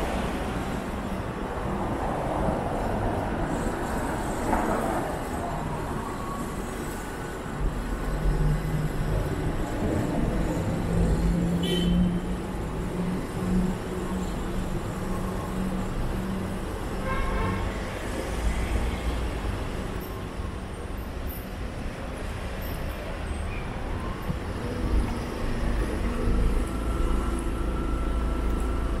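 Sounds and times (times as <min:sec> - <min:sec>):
traffic passing: 0:00.0 - 0:29.0.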